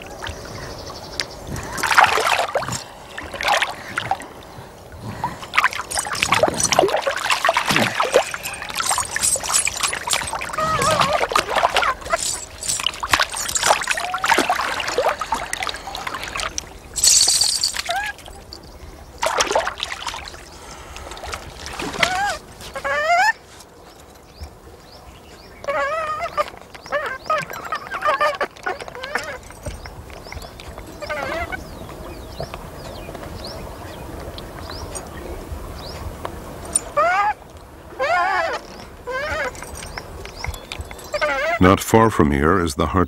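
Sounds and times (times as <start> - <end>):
water splashing and sloshing: 0.0 - 41.6.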